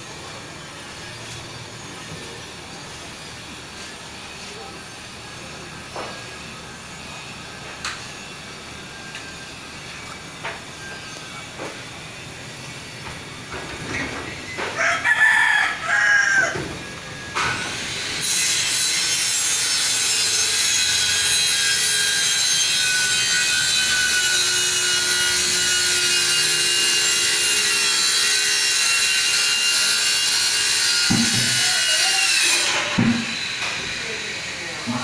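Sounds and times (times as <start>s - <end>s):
power cutter hiss and whine: 0.0s - 15.0s, 15.8s - 35.0s.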